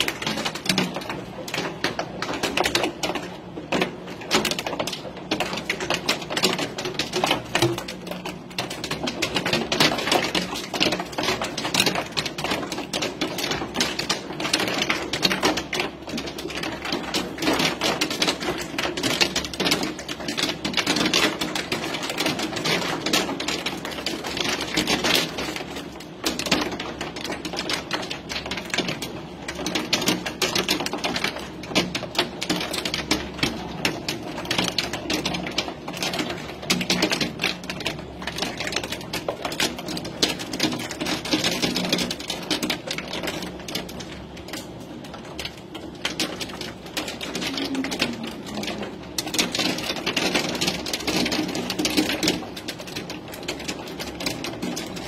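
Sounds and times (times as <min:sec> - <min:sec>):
hail clattering on hard surfaces: 0:00.0 - 0:55.0.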